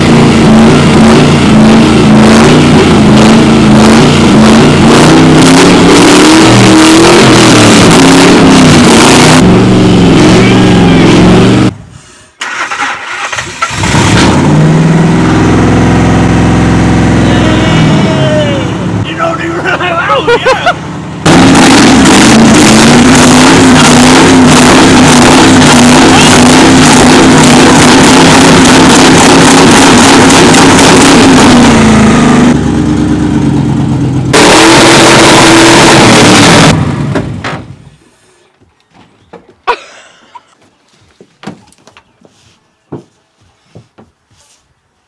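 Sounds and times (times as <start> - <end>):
truck engine revving: 0.0 - 11.8, 12.4 - 37.4.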